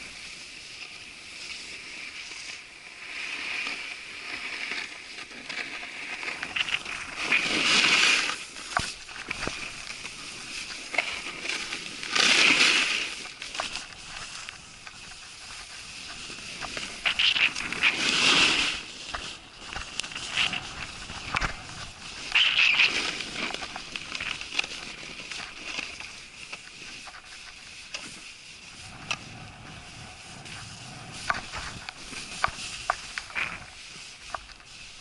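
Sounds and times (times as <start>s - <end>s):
snow crunching: 0.0s - 35.0s
snowboard scraping over snow: 0.0s - 35.0s.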